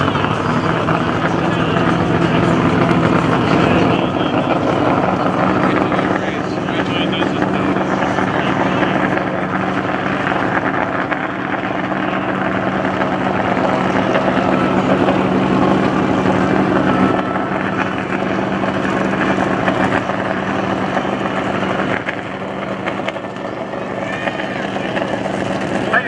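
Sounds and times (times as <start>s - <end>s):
propeller planes droning past: 0.0s - 26.0s.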